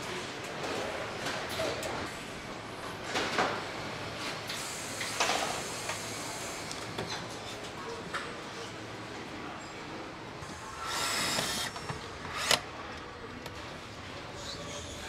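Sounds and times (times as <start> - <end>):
assembly line background noise: 0.0 - 7.8, 10.0 - 15.0.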